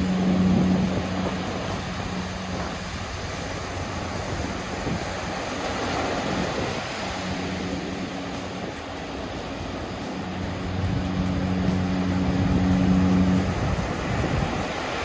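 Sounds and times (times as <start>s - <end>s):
ship's horn hooting: 0.0s - 8.3s, 10.2s - 15.0s
surf: 0.0s - 15.0s
wind: 0.0s - 15.0s.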